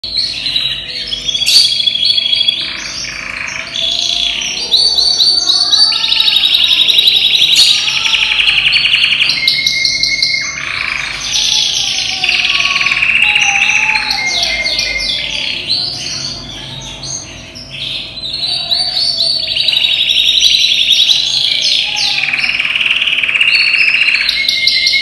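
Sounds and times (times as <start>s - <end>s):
canary singing trills and whistles: 0.0s - 25.0s.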